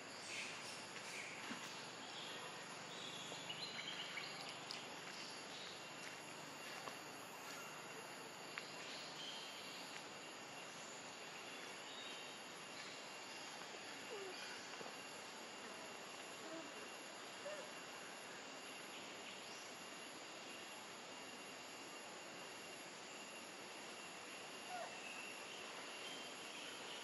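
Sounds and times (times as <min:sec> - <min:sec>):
forest background hiss: 0:00.0 - 0:27.0
insect drone: 0:00.0 - 0:27.0.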